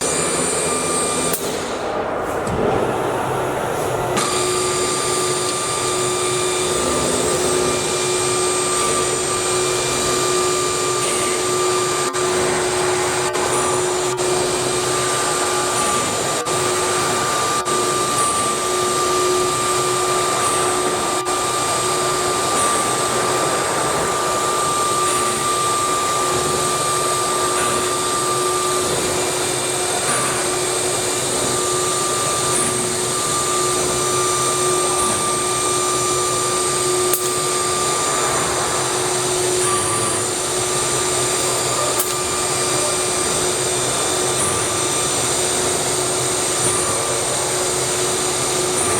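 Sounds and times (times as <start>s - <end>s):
router spindle whine: 0.0s - 1.7s, 4.1s - 48.9s.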